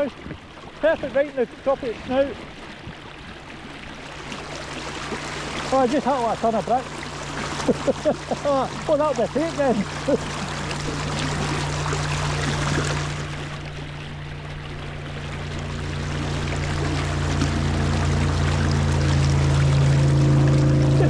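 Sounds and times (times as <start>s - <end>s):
motorboat engine humming: 0.0s - 21.0s
river water rushing: 0.0s - 21.0s.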